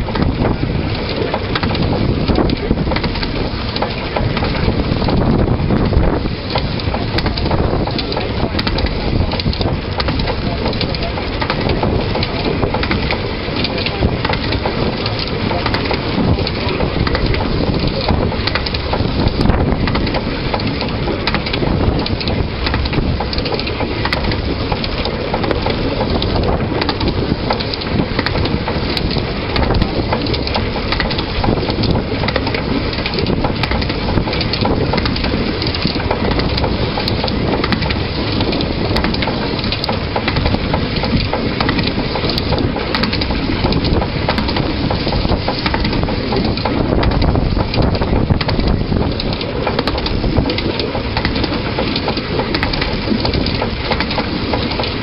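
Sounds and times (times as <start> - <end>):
locomotive wheels clattering on track: 0.0 - 55.0.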